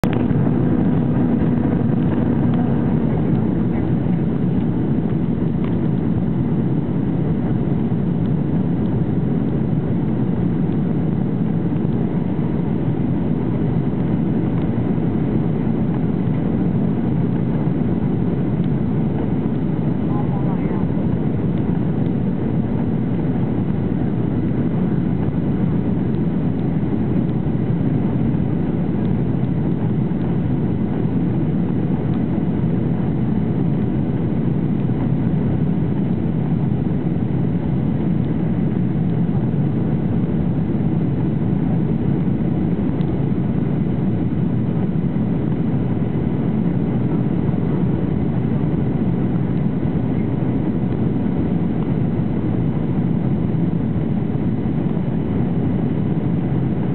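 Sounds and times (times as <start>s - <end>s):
airplane cabin engine drone: 0.0s - 56.9s.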